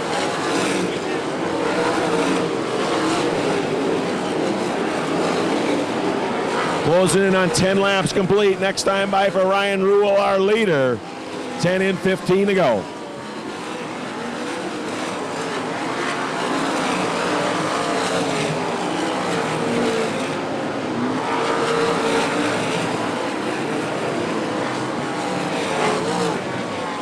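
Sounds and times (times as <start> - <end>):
race car engines at speed: 0.0 - 27.0.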